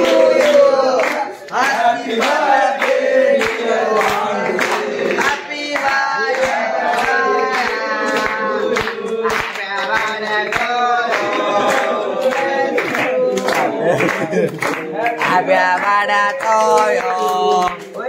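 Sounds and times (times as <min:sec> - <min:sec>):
hands clapping in time: 0:00.0 - 0:18.0
young men singing: 0:00.0 - 0:18.0.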